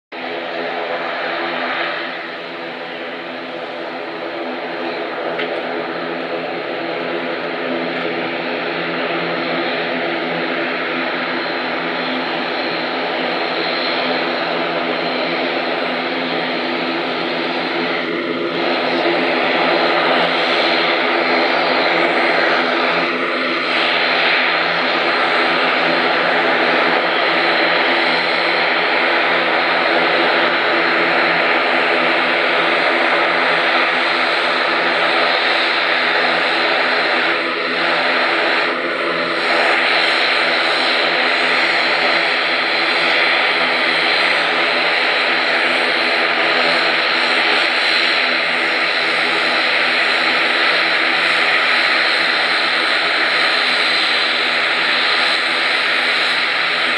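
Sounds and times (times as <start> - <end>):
turboprop engines droning: 0.1 - 56.9.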